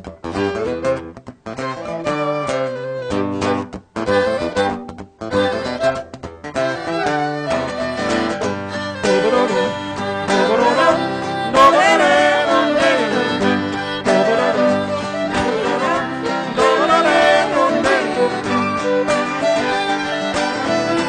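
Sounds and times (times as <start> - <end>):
fiddle melody: 0.0 - 21.0
strummed acoustic guitar: 0.0 - 21.0.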